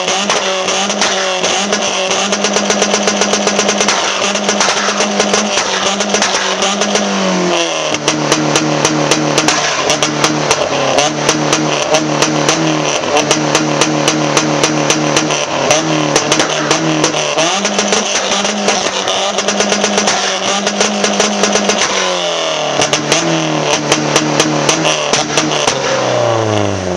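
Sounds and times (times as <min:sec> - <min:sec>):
car engine on rev limiter: 0:00.0 - 0:26.9
exhaust crackles: 0:00.0 - 0:26.9.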